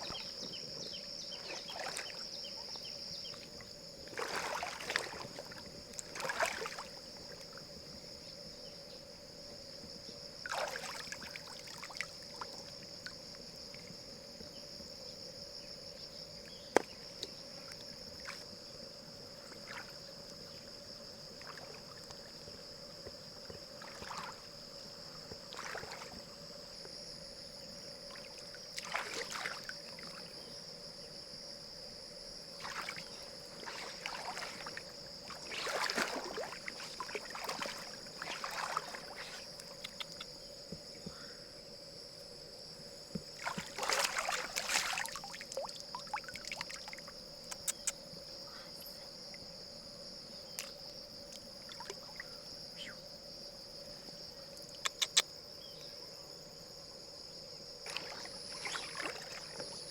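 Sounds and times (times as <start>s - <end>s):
water splashing and sloshing: 0.0s - 8.2s, 9.8s - 14.4s, 16.2s - 31.2s, 32.2s - 41.2s, 42.8s - 53.1s, 57.6s - 59.9s.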